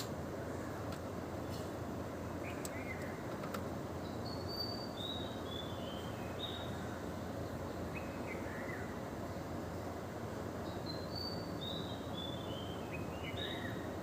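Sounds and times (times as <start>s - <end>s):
birds chirping: 0.0s - 14.0s
outdoor background rush: 0.0s - 14.0s.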